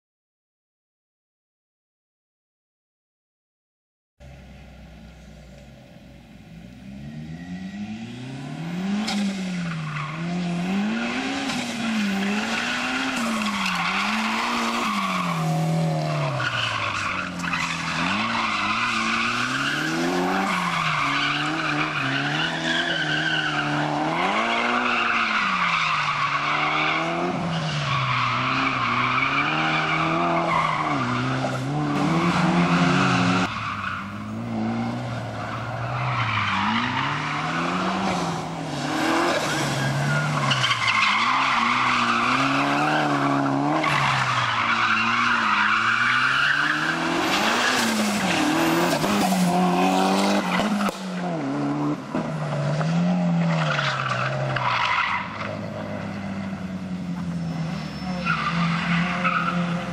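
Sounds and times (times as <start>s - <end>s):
car engine revving: 4.2s - 59.9s.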